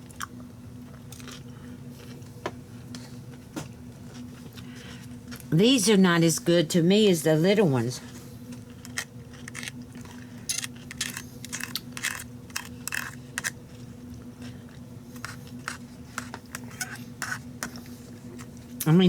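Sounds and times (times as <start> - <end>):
crunchy chewing of pickles: 0.0 - 5.5, 8.1 - 18.8
low electrical hum: 0.0 - 19.0.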